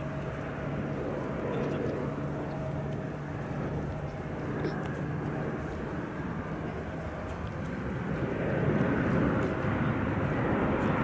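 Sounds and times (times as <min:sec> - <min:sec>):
jet engine rush: 0:00.0 - 0:11.0.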